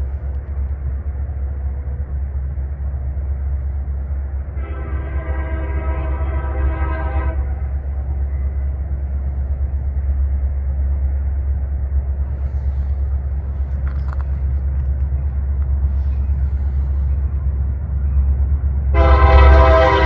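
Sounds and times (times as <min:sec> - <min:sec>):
freight train deep rumble: 0:00.0 - 0:20.0.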